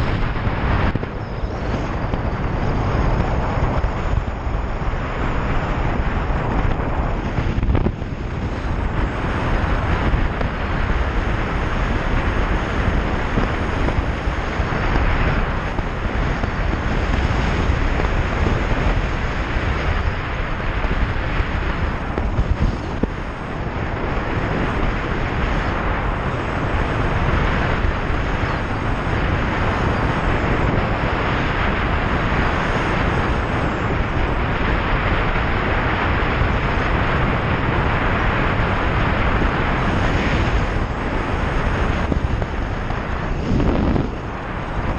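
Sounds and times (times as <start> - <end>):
road noise: 0.0 - 44.9
wind rushing on microphone: 0.0 - 44.9.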